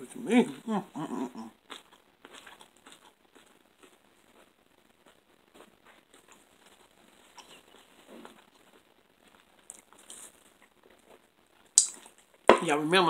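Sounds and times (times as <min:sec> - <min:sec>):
person chewing with mouth closed: 0:01.0 - 0:12.4.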